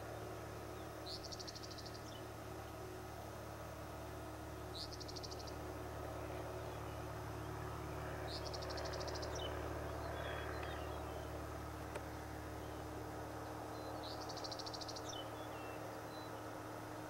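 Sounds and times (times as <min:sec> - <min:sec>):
distant light plane engine drone: 0:00.0 - 0:17.0.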